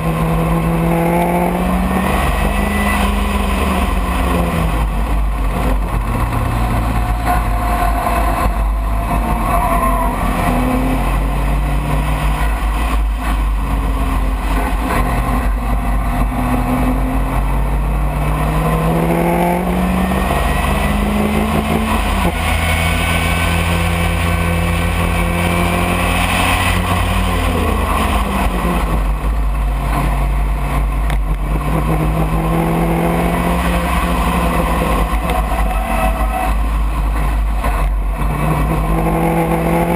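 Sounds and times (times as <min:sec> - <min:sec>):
racing car engine revving: 0:00.0 - 0:39.9
wind and road noise rumble: 0:00.0 - 0:39.9.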